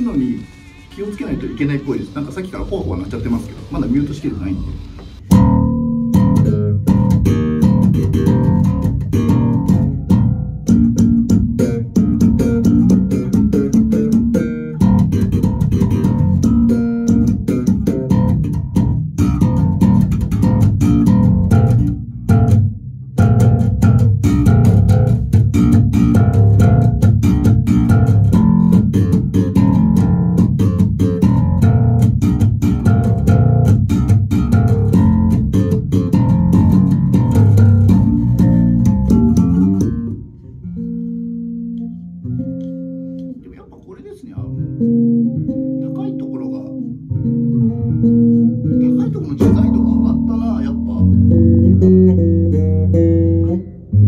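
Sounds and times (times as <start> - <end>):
electric bass plucked notes: 0.0 - 43.6, 44.3 - 54.0.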